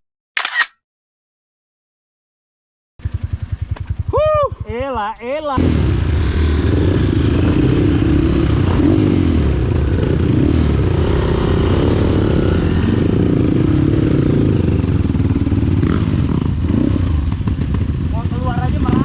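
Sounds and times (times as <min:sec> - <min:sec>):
motorcycle engine revving: 0:03.0 - 0:19.0.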